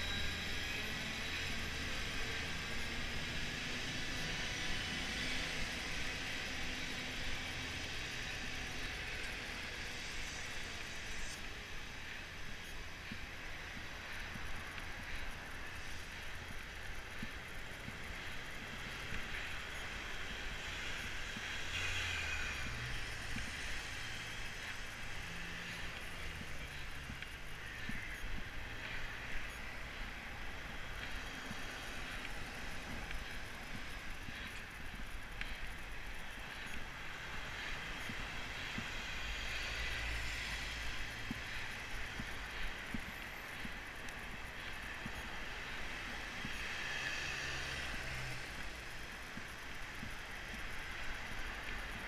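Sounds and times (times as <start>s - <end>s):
road noise: 0.0s - 52.0s.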